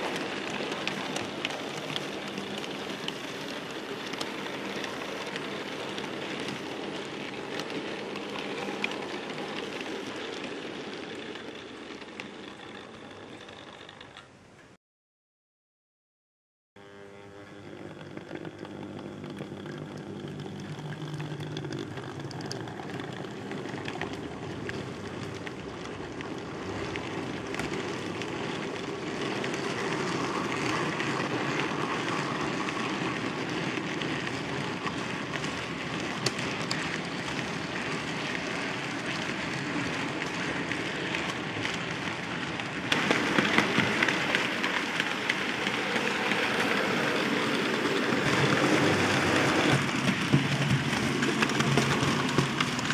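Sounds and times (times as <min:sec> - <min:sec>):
model train whirring rattle: 0:00.0 - 0:14.4, 0:17.9 - 0:52.9.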